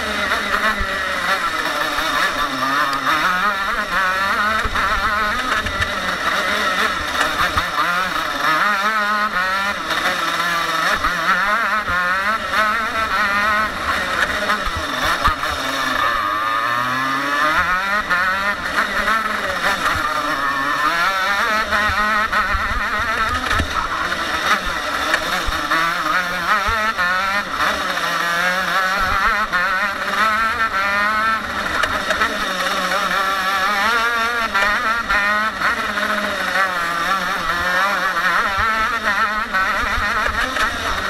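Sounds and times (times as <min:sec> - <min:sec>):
kart engine revving: 0:00.0 - 0:41.0.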